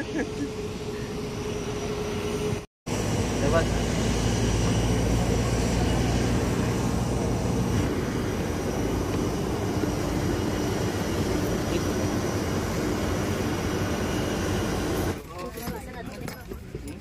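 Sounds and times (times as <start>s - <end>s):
aircraft engines droning: 0.0s - 15.2s.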